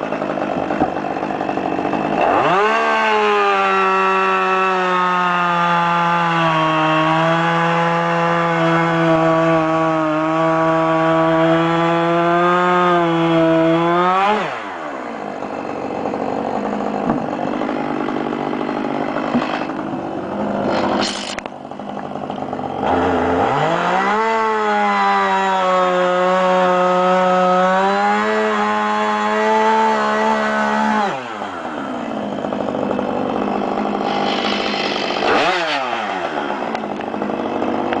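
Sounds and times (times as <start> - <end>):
chainsaw at full throttle: 0.0 - 38.0.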